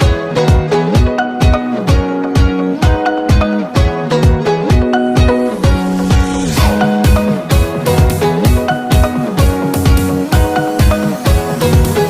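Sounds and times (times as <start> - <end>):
plucked string notes: 0.0 - 11.0.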